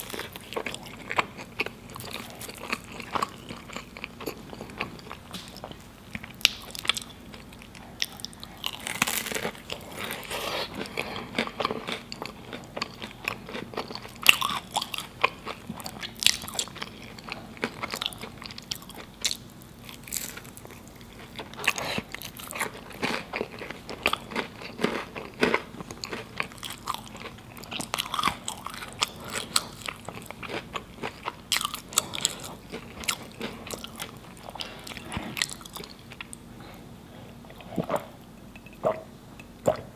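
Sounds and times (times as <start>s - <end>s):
pastry crunching: 0.0s - 36.4s.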